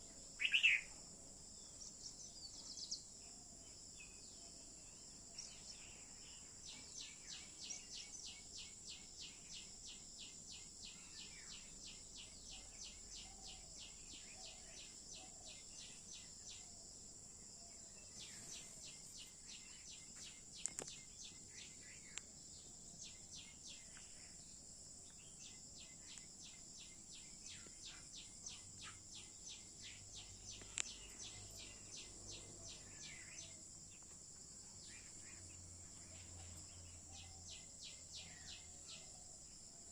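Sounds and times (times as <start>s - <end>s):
bird chirping: 0.0s - 39.9s
high-pitched insect trill: 2.6s - 39.9s.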